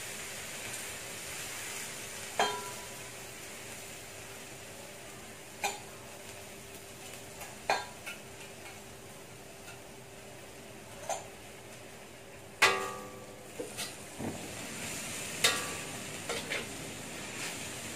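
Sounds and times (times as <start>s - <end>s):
greens sizzling in a wok: 0.0s - 17.9s.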